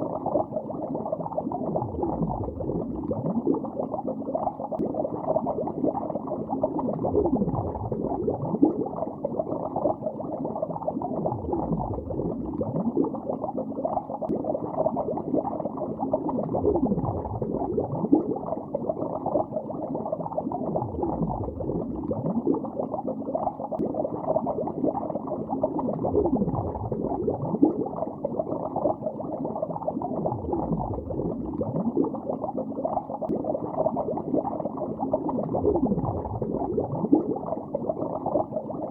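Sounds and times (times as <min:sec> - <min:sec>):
underwater bubbling: 0:00.0 - 0:38.9.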